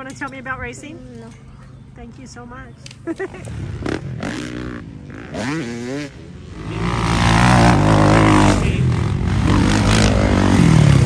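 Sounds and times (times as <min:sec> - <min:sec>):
dirt bike engines: 0:00.0 - 0:11.0.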